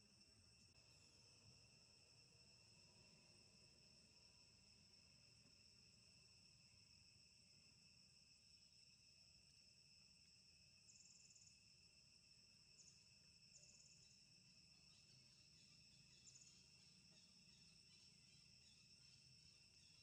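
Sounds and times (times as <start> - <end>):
shrill insect drone: 0.0 - 20.0.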